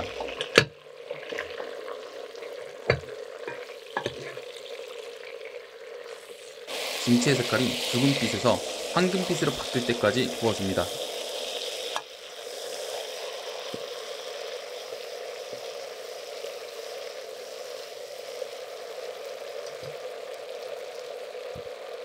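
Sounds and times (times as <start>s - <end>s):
food sizzling in fat: 0.0s - 22.0s.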